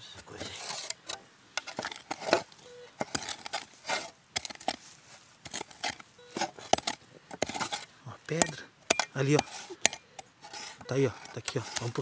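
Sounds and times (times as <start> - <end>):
shovel digging into soil: 0.3 - 12.0.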